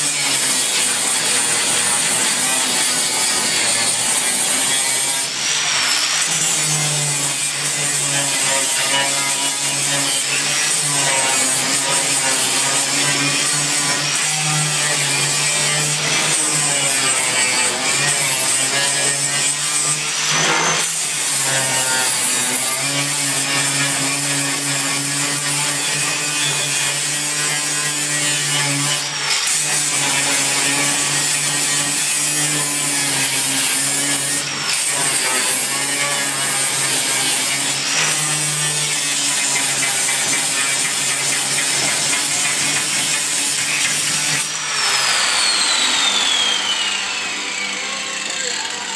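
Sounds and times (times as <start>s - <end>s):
angle grinder grinding metal: 0.0s - 48.9s.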